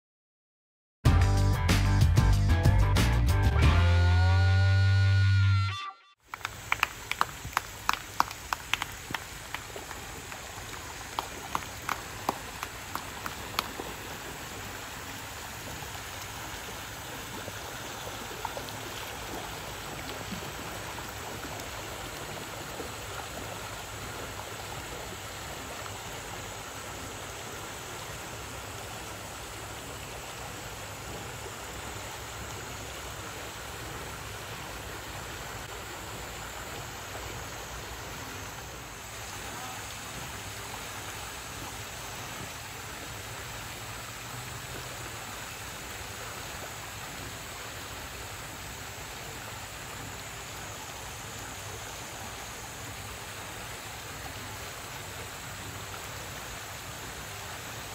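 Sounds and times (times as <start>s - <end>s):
water pouring into a pool: 6.2s - 57.9s.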